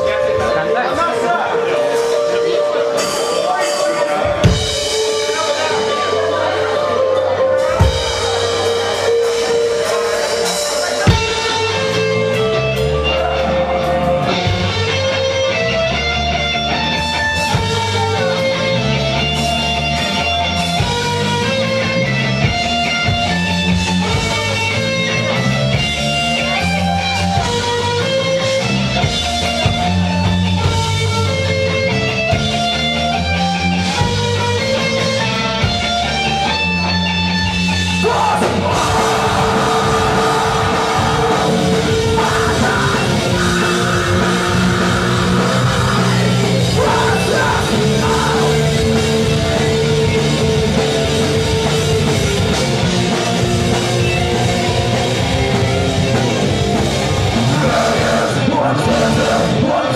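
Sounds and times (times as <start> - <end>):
bass guitar line: 0.0 - 59.9
electric guitars: 0.0 - 59.9.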